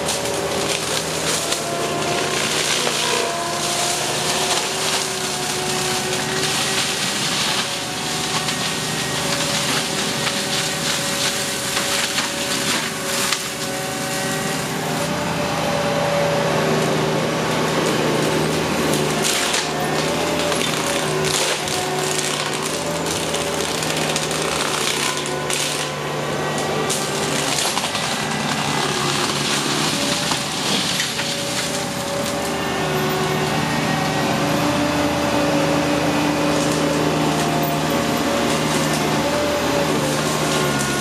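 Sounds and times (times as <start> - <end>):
wood splintering crackle: 0.0 - 15.2, 16.0 - 41.0
engine drone: 0.0 - 41.0.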